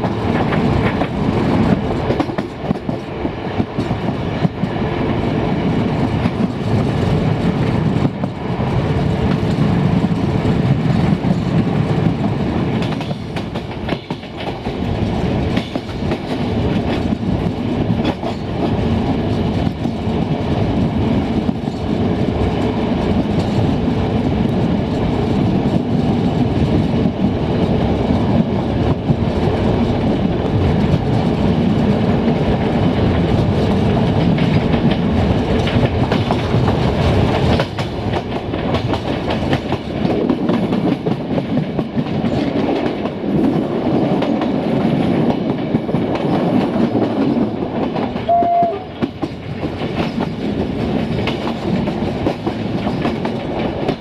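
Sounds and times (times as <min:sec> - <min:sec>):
clickety-clack of rail joints: 0:00.0 - 0:54.0
train wheels rolling on rails: 0:00.0 - 0:54.0.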